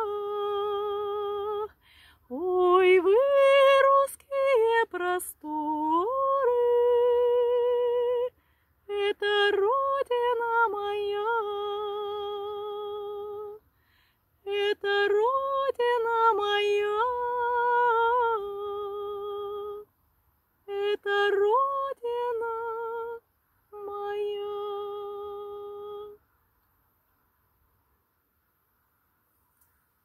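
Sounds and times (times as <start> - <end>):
woman singing unaccompanied: 0.0 - 13.6, 14.4 - 19.9, 20.6 - 26.2.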